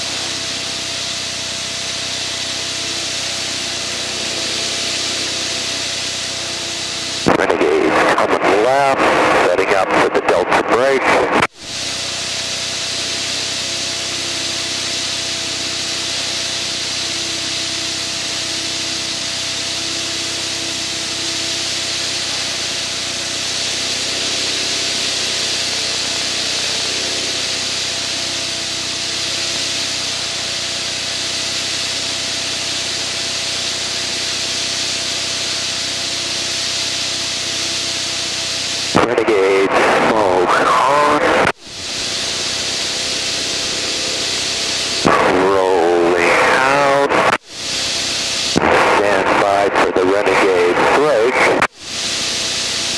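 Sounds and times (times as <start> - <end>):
rushing airflow hiss: 0.0 - 9.4, 11.1 - 52.9
aircraft engine drone: 0.0 - 52.9.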